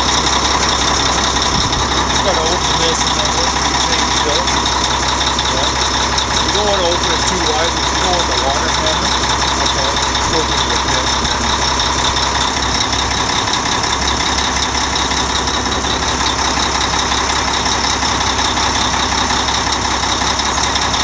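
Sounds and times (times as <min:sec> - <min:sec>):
fire truck engine idling: 0:00.0 - 0:21.0
steady high whine: 0:00.0 - 0:21.0.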